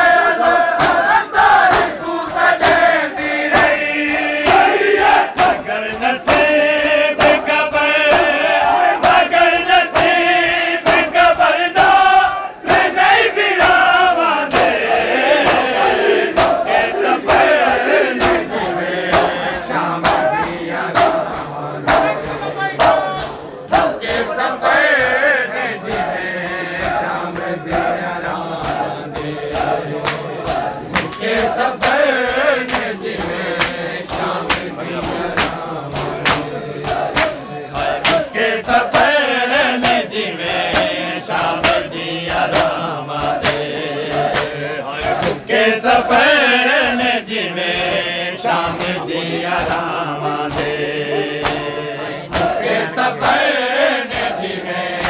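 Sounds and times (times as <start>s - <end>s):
crowd of men chanting: 0.0s - 55.0s
hands slapping chests: 0.7s - 47.1s, 47.7s - 51.7s, 52.3s - 55.0s.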